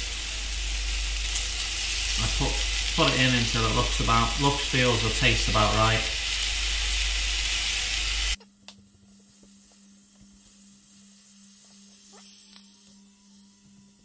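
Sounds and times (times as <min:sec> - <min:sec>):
fruit sizzling in a saucepan: 0:00.0 - 0:08.4, 0:09.0 - 0:14.0.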